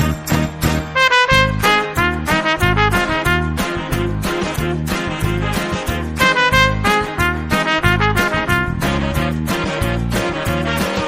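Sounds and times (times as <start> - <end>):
bass: 0.0 - 11.0
drums: 0.0 - 11.0
trumpet melody: 0.0 - 11.0.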